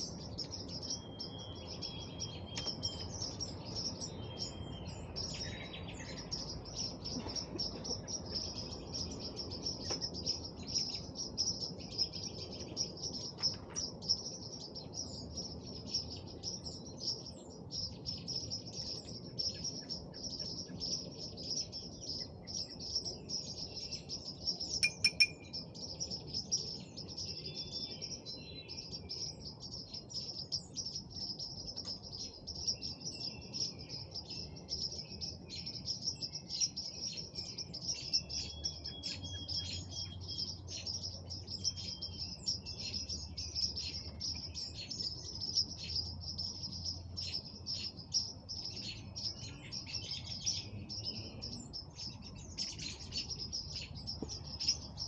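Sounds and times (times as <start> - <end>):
bird calls: 0.0 - 55.0
dense high-pitched chirping: 0.0 - 55.0.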